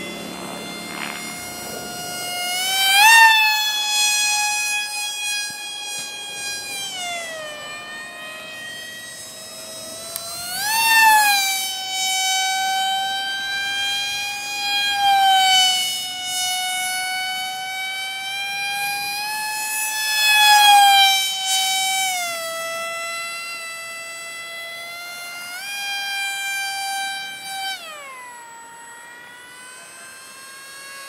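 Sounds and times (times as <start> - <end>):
model plane motor whine: 0.0 - 31.0.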